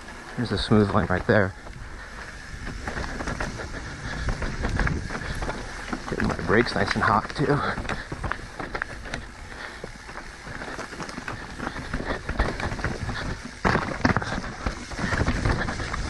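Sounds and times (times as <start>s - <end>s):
bike rattling with clicks: 0.0s - 16.0s
tyres crunching over dirt and rock: 0.0s - 16.0s.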